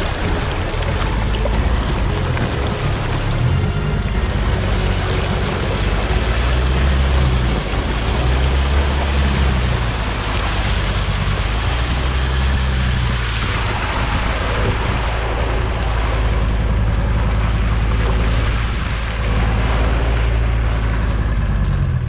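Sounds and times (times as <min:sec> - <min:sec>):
wind buffeting microphone: 0:00.0 - 0:21.2
low vehicle rumble: 0:00.0 - 0:22.0
tyre splashing through water and mud: 0:00.0 - 0:22.0.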